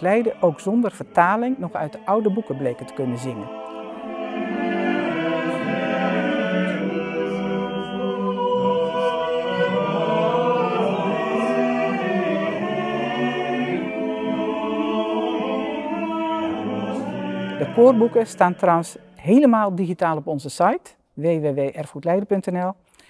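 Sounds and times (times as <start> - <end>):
a cappella choir singing: 0.0 - 19.4.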